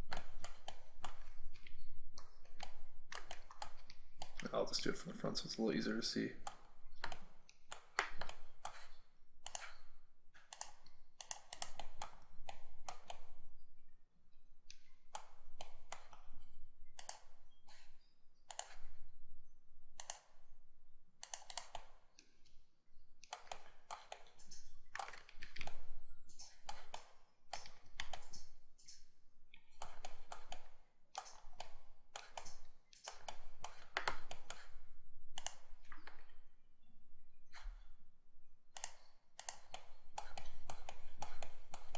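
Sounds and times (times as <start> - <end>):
mouse and keyboard clicking: 0.0 - 4.6, 6.4 - 13.4, 14.7 - 19.0, 19.9 - 20.4, 21.2 - 22.5, 23.2 - 36.4, 38.7 - 41.9.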